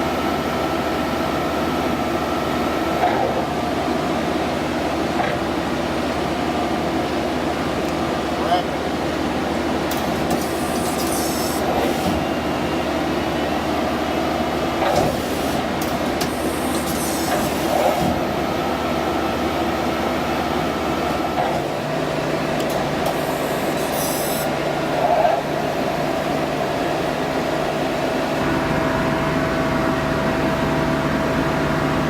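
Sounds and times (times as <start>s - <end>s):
lathe machine hum: 0.0s - 32.0s.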